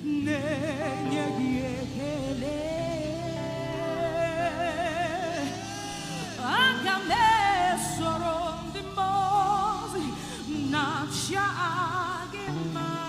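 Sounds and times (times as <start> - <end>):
person singing with vibrato: 0.0 - 13.0
sustained instrumental backing: 0.0 - 13.0.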